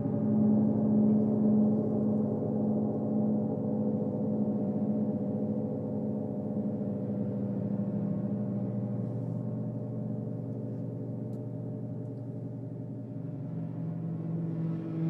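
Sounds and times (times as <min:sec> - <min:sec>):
large gongs shimmering: 0:00.0 - 0:15.0.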